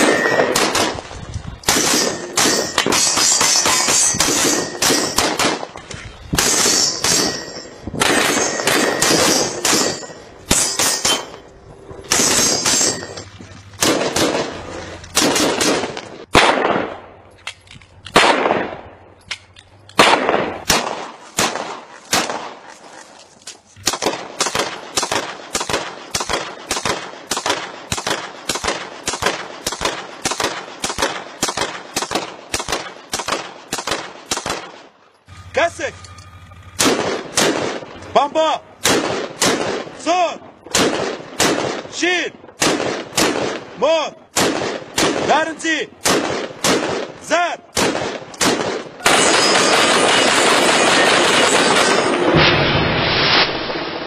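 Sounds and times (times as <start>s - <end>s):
pistol shots: 0.0s - 11.4s, 12.1s - 13.2s, 13.8s - 17.2s, 18.1s - 19.0s, 19.9s - 22.7s, 23.8s - 34.9s, 36.8s - 38.2s, 38.8s - 40.0s, 40.7s - 43.7s, 44.3s - 52.5s.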